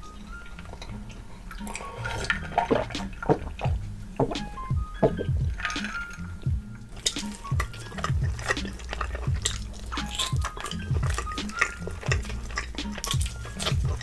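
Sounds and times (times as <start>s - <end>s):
quiet background music: 0.0s - 14.0s
wet chewing and lip-smacking: 0.0s - 14.0s
mouth clicks: 0.5s - 14.0s.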